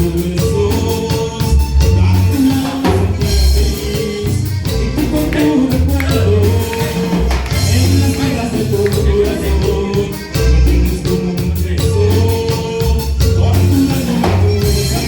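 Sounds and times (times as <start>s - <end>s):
band playing with singing: 0.0s - 15.0s.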